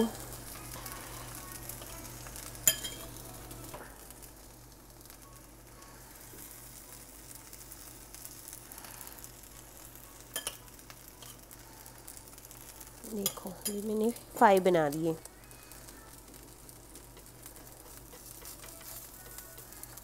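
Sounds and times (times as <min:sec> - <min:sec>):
pancakes sizzling on a pan: 0:00.0 - 0:20.0.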